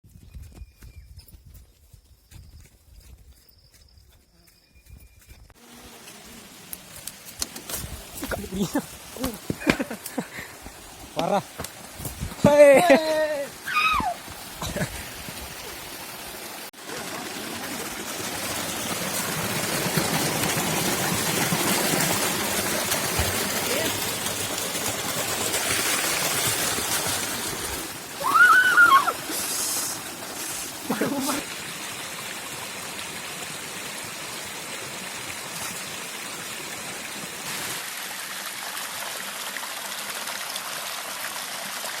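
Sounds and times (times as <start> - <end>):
waterfall rushing: 5.6 - 39.8.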